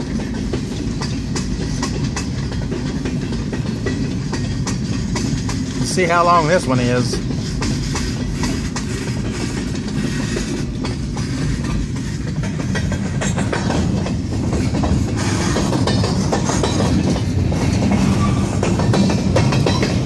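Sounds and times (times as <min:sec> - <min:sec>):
train wheels clacking on rails: 0:00.0 - 0:20.0.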